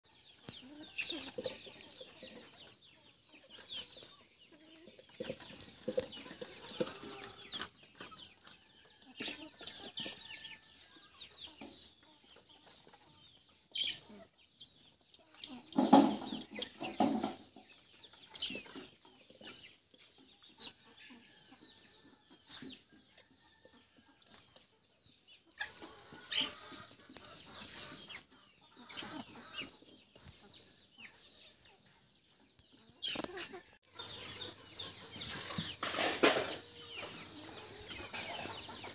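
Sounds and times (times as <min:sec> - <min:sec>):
hens clucking: 0:00.2 - 0:38.9.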